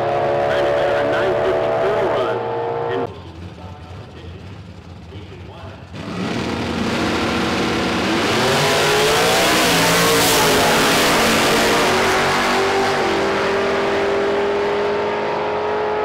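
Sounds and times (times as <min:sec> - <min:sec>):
race car engines accelerating: 0:00.0 - 0:16.0.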